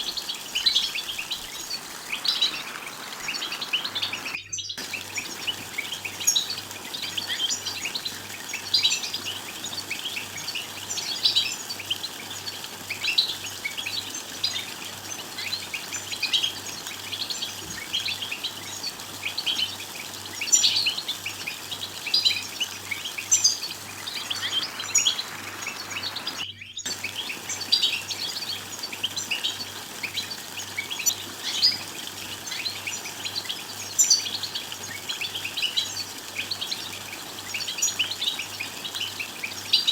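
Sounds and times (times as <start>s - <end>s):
goldfinch chirping: 0.0s - 39.9s.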